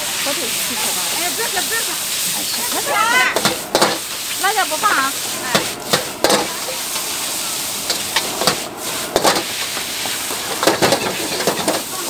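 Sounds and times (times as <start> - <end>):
ladle clanking and scraping wok: 0.0 - 12.0
noodles sizzling in wok: 0.0 - 12.0.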